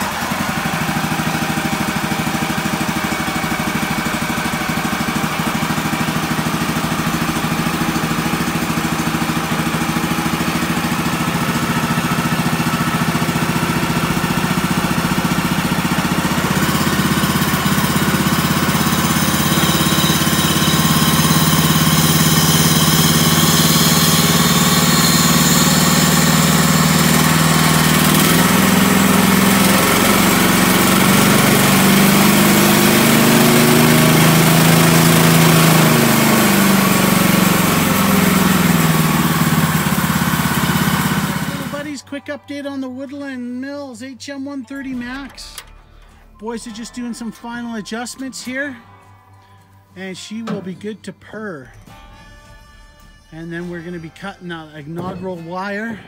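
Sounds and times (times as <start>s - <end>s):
sawmill gasoline engine running: 0.0s - 48.8s, 53.3s - 56.0s.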